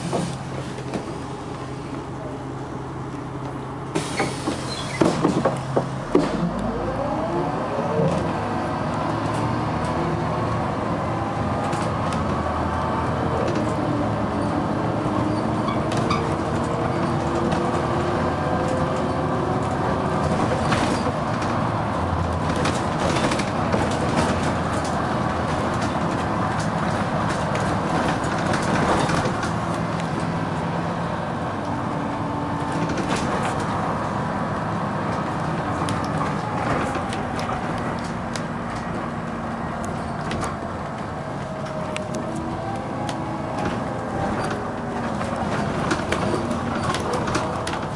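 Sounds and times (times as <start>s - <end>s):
bus body rattles: 0.0s - 1.3s, 3.3s - 6.6s, 7.8s - 47.9s
bus engine working hard: 0.0s - 47.9s.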